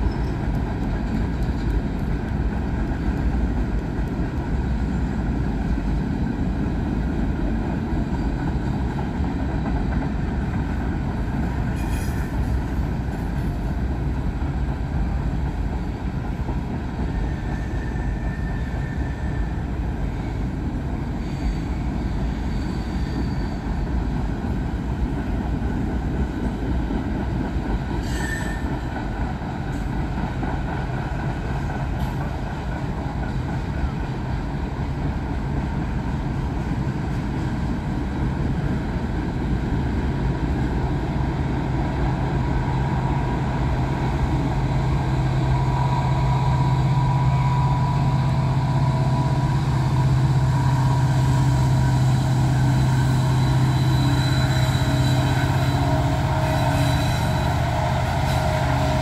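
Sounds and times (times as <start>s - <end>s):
freight train rumbling on track: 0.0s - 59.0s.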